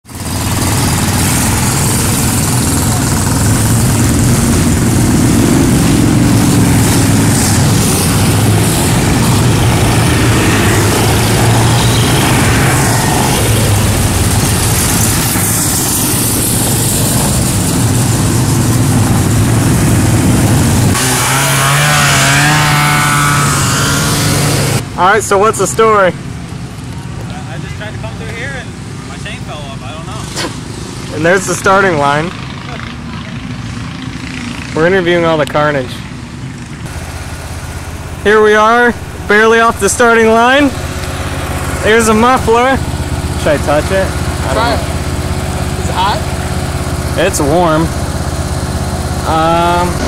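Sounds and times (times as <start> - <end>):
atv engines accelerating: 0.1 - 50.0.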